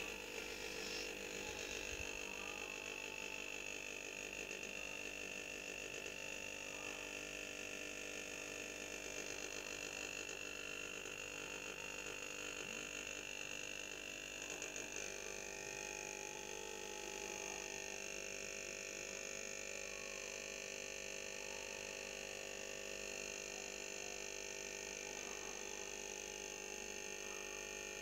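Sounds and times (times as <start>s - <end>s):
electrical hum with high whine: 0.0s - 28.0s.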